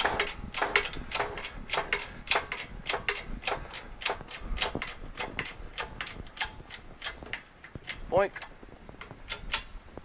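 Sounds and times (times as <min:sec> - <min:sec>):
hand pump jack clicking: 0:00.0 - 0:09.7.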